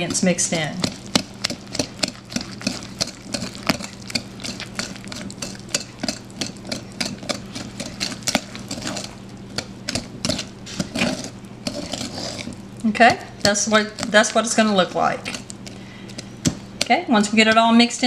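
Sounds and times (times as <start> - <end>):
whisk clicking against bowl: 0.0 - 17.0
steady low hum: 0.0 - 18.0.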